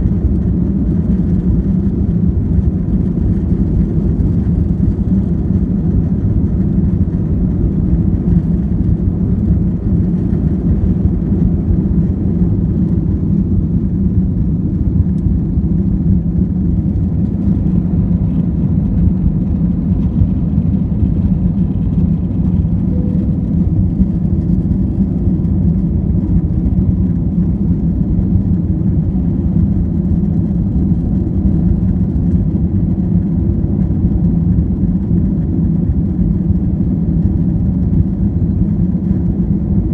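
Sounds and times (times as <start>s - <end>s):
jet engines low rumble: 0.0s - 39.9s.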